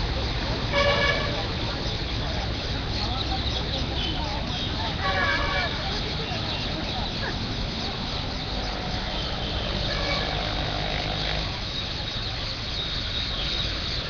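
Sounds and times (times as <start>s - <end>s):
heavy road traffic rumble: 0.0s - 14.0s.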